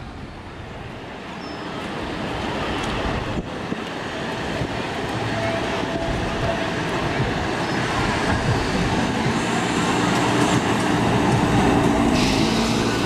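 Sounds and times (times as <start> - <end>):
traffic rumble: 0.0 - 13.0
tram running on rails: 0.0 - 13.0
wind buffeting microphone: 0.0 - 13.0.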